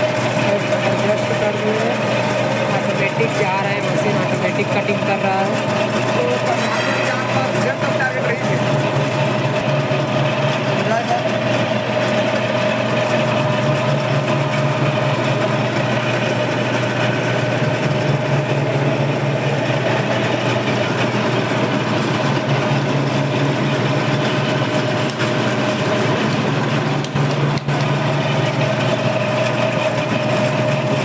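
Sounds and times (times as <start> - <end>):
metal lathe humming: 0.0 - 31.0.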